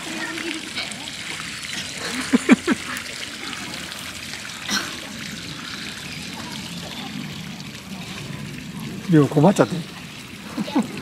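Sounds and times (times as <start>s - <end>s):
trickle of running water: 0.0s - 11.0s.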